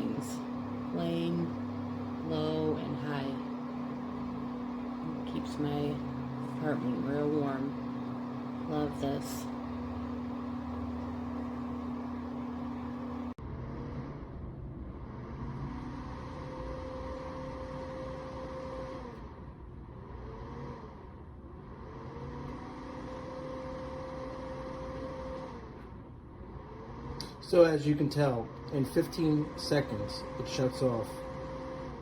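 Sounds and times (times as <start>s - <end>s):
heater fan motor humming: 0.0s - 32.0s.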